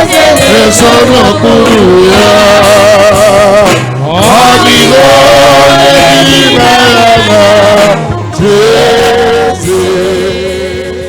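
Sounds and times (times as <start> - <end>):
band accompaniment: 0.0 - 11.0
man singing gospel melody: 0.0 - 11.0.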